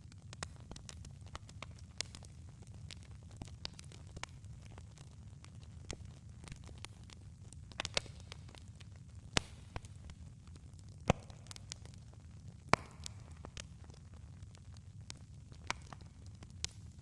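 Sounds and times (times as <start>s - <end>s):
campfire crackling: 0.0s - 17.0s
fire pops and snaps: 0.0s - 17.0s
low fire rumble: 0.0s - 17.0s.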